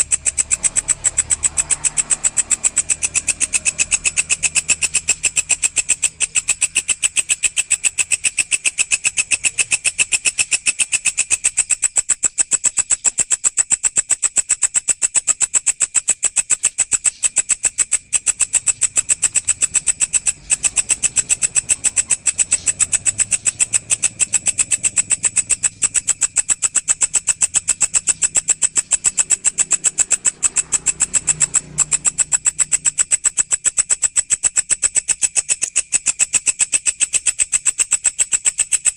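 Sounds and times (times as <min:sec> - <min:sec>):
grasshopper stridulating: 0:00.0 - 0:38.9.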